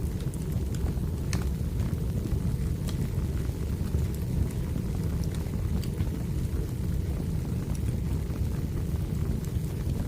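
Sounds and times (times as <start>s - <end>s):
burning logs crackling: 0.0s - 10.0s
low rumble of flames: 0.0s - 10.0s.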